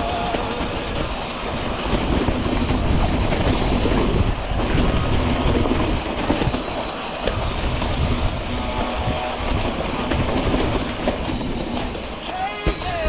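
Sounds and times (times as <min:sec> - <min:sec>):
bike rumbling and rattling on trail: 0:00.0 - 0:13.0.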